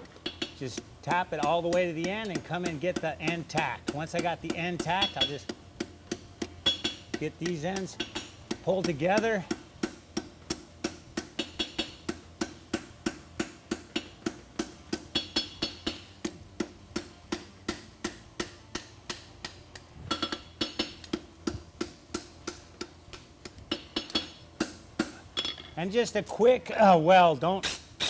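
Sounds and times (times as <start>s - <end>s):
hammer striking steel on anvil: 0.0s - 25.8s.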